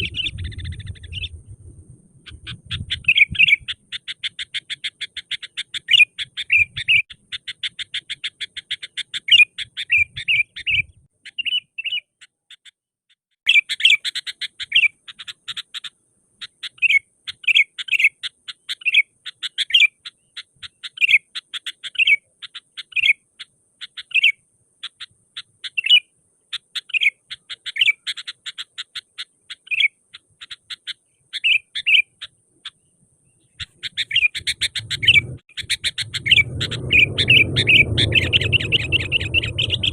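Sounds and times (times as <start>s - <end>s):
bird singing sharp chirps: 0.0s - 12.8s, 13.5s - 39.9s.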